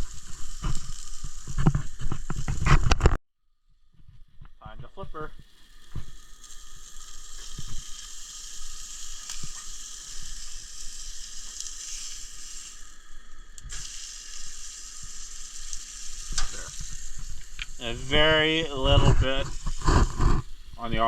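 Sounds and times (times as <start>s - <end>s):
patty sizzling in a frying pan: 0.0s - 21.0s.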